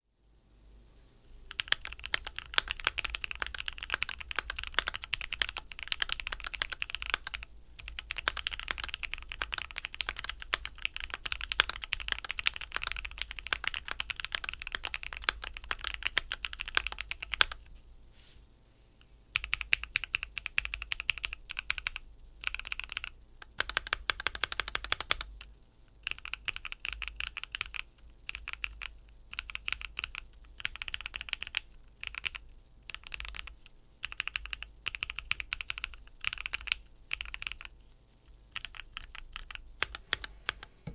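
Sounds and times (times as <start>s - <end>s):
low background hum: 0.0s - 40.9s
typing on mechanical keyboard: 1.5s - 17.7s, 19.3s - 37.7s, 38.5s - 40.7s.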